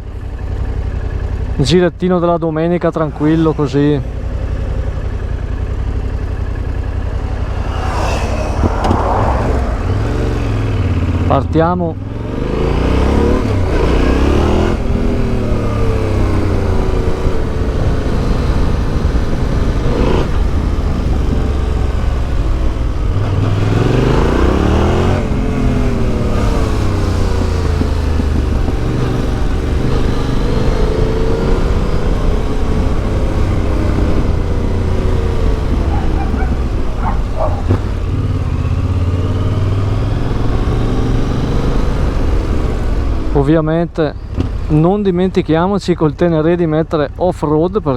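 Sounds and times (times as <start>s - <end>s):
motorcycle engine revving: 3.0s - 43.3s.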